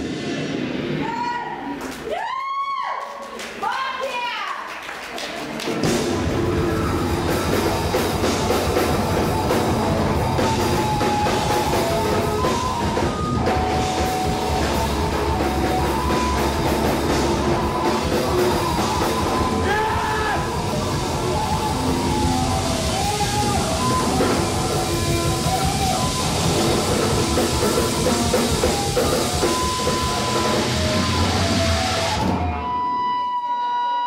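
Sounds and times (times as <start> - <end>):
live rock band playing: 0.0 - 1.2, 5.6 - 33.8.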